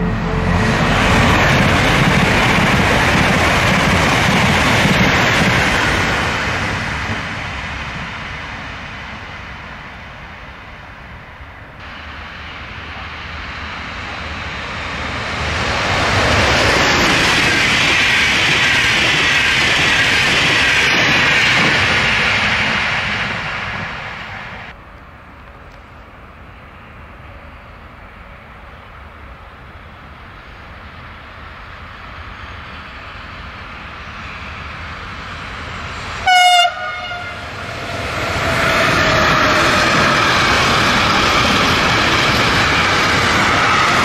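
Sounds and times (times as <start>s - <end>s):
high-speed train passing: 0.0s - 44.0s
regional train passing: 0.0s - 44.0s.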